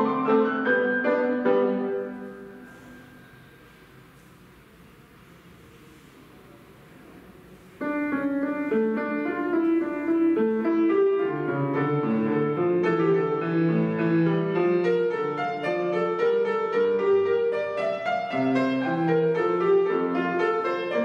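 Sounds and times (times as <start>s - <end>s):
classical piano piece: 0.0s - 21.0s.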